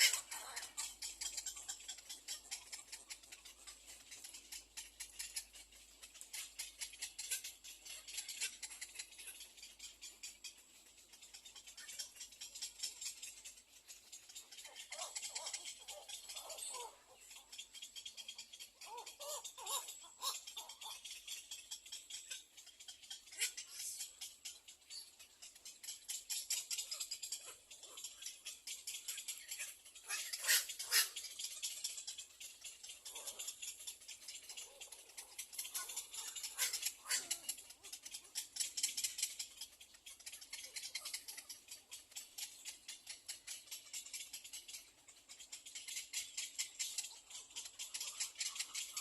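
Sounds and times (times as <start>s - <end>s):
chicks clicking rattle: 0.0s - 49.0s
squeaky gliding chick calls: 0.0s - 49.0s.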